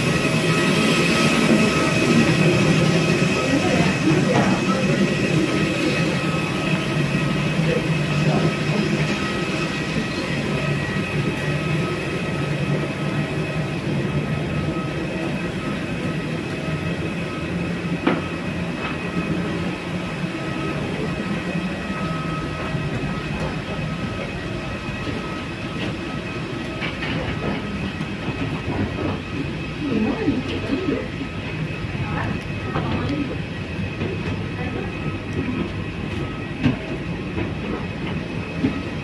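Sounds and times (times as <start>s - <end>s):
mechanical hum: 0.0s - 39.0s.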